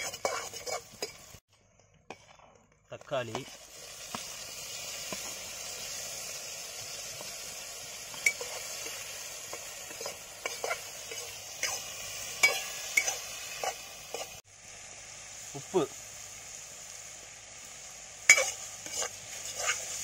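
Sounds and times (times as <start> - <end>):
vegetables sizzling in pan: 0.0 - 1.4, 3.0 - 20.0.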